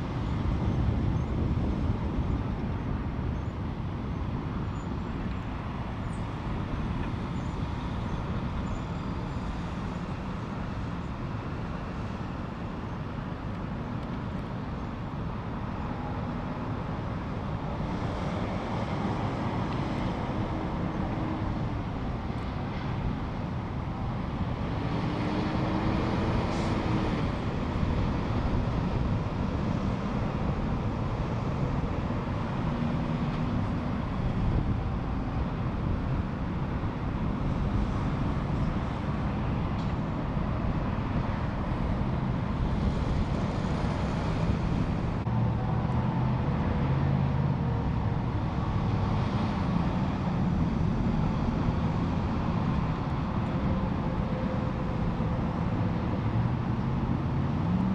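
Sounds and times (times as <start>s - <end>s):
freeway traffic rumble: 0.0s - 57.9s.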